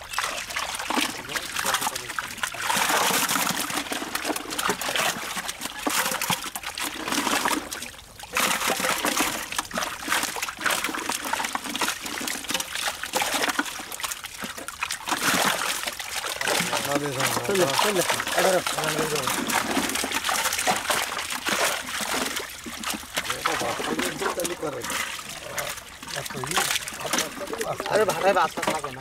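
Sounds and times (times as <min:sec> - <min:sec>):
fish thrashing and splashing: 0:00.0 - 0:29.0
hands scooping in water: 0:00.0 - 0:29.0.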